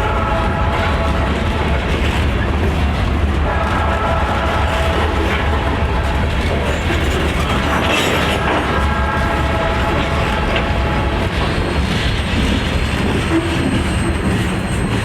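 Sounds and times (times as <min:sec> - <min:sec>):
freight train wheels clacking: 0:00.0 - 0:15.0
train low rumble: 0:00.0 - 0:15.0.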